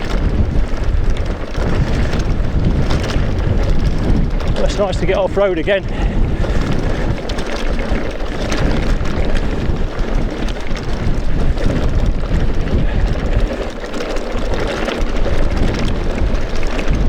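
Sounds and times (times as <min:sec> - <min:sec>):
bike knocks and rattles: 0:00.0 - 0:17.0
bike tyres rumbling off-road: 0:00.0 - 0:17.0
wind noise on microphone: 0:00.0 - 0:17.0.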